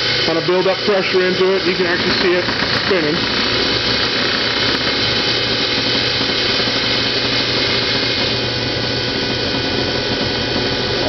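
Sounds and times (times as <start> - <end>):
mechanical whir with steady tones: 0.0 - 11.0.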